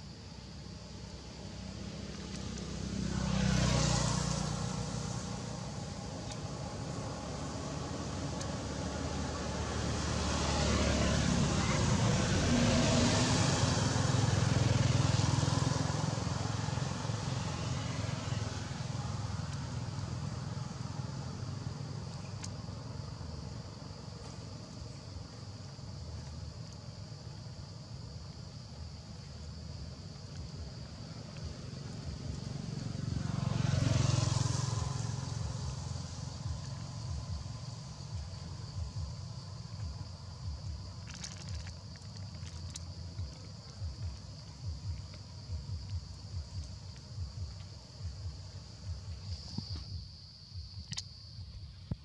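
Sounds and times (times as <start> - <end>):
low rumble with hiss: 0.0 - 52.0
motor vehicle passing: 1.5 - 25.3, 29.6 - 50.0.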